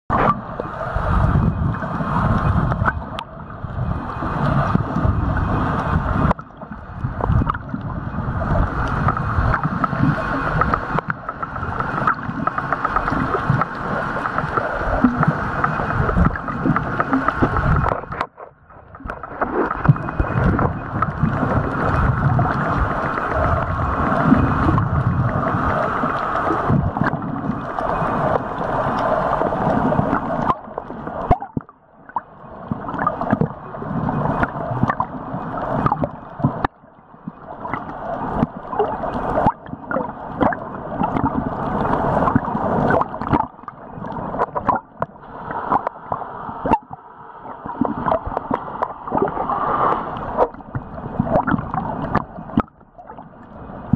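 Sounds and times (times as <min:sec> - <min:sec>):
underwater water gurgling: 0:00.1 - 0:53.9
underwater clicks: 0:05.8 - 0:08.0, 0:08.6 - 0:33.6, 0:34.4 - 0:47.0, 0:47.6 - 0:53.3.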